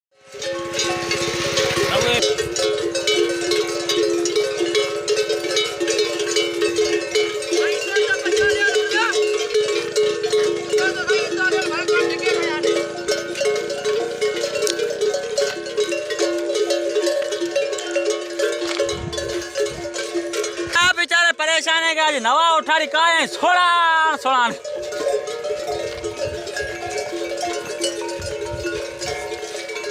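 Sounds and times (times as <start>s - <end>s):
camel bells jangling: 0.2s - 29.9s.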